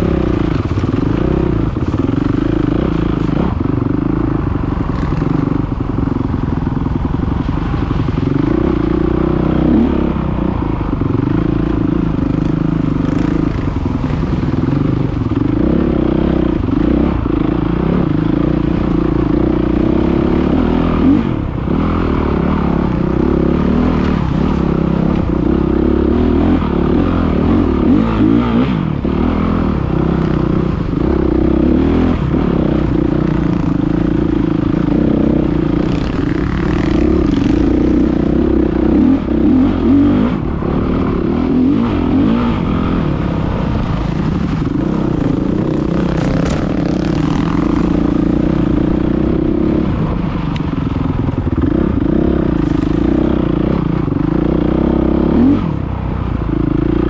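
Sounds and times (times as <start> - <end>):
dirt bike engine revving: 0.0 - 55.8.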